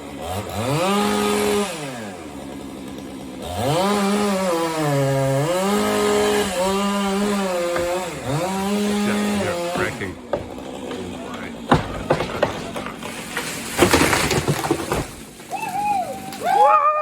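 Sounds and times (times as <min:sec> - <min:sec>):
chainsaw cutting wood: 0:00.0 - 0:16.5.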